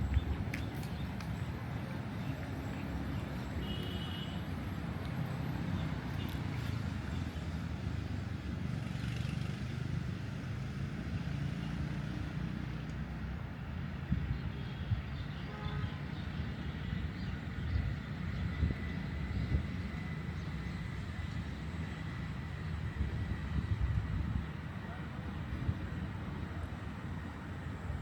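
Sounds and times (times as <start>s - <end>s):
low rumble of road traffic: 0.0s - 28.0s.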